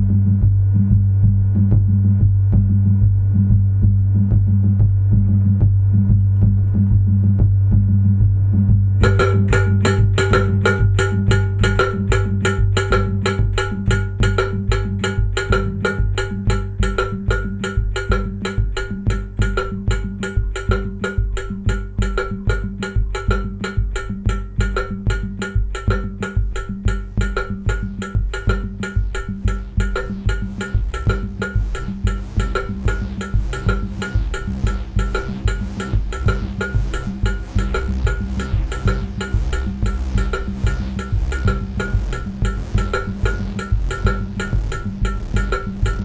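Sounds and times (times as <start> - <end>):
low bass drone: 0.0 - 46.0
pulsing bass note: 0.0 - 46.0
fast repeating percussive note: 9.0 - 46.0.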